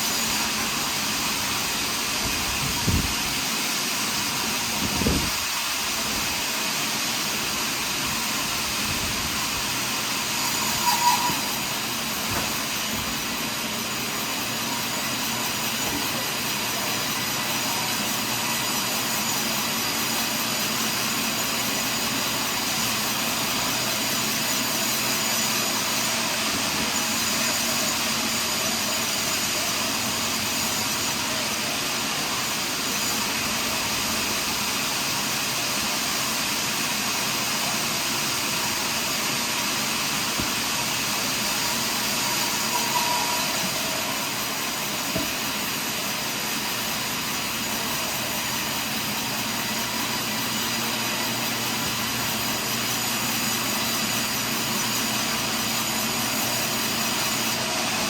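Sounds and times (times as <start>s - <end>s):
sawmill cutting log: 0.0s - 58.0s.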